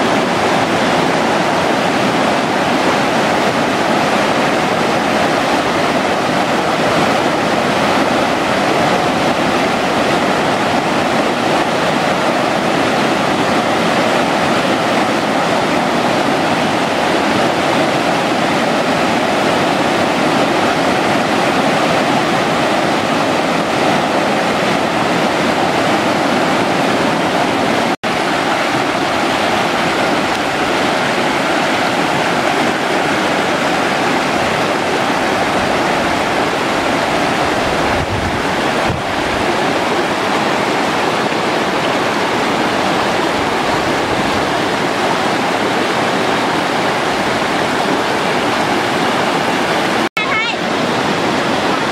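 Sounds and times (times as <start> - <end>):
waterfall stream rushing over rock: 0.0 - 51.9.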